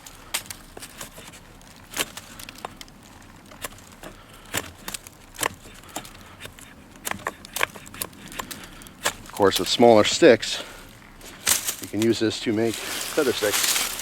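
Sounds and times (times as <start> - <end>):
hatchet cutting green wood: 0.3 - 12.2.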